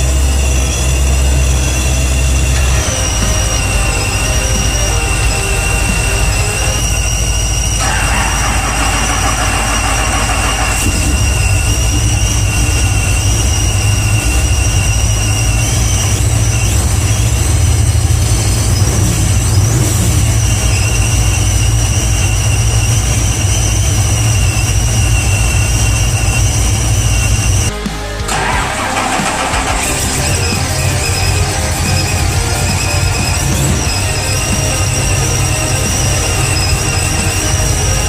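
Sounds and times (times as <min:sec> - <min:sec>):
car engine idling: 0:00.0 - 0:38.0
supercharger whine: 0:00.0 - 0:38.0.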